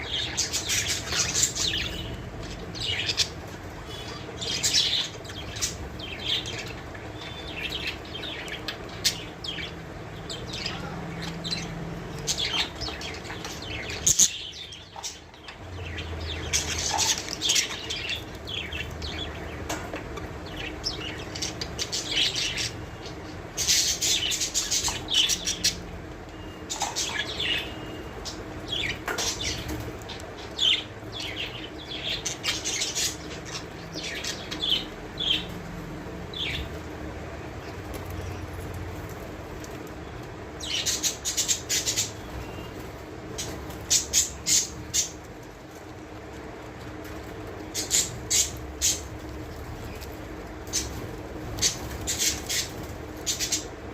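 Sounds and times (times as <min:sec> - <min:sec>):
budgerigars chirping: 0:00.0 - 0:35.6, 0:36.3 - 0:36.8, 0:40.6 - 0:45.3, 0:47.6 - 0:53.7.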